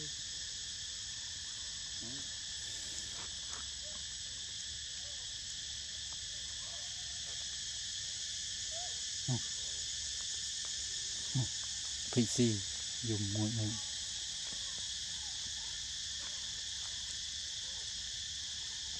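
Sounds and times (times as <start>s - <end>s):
insects buzzing: 0.0s - 18.9s.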